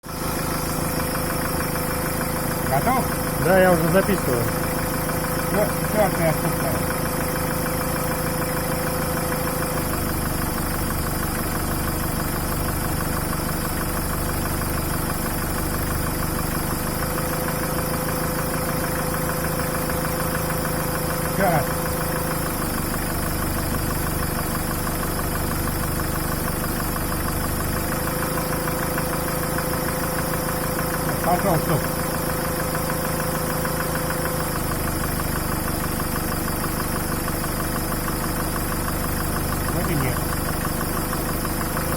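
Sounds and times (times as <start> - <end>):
diesel engine running with a knock: 0.0 - 41.9.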